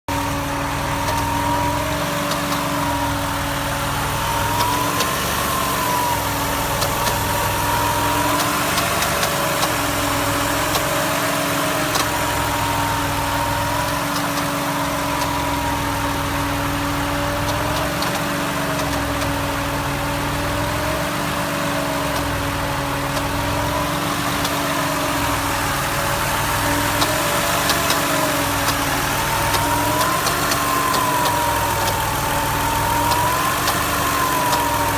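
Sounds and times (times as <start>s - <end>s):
car engine idling with whine: 0.0s - 34.9s
faint engine ticks: 0.1s - 34.9s.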